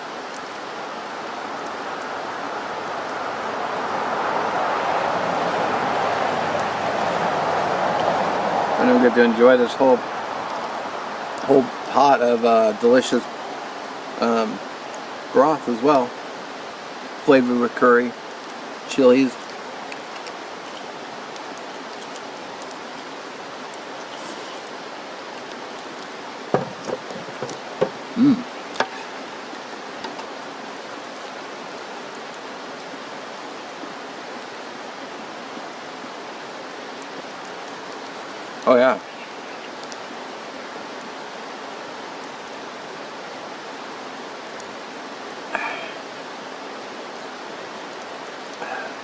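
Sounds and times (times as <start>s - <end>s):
rushing hiss of outdoor noise: 0.0s - 49.0s.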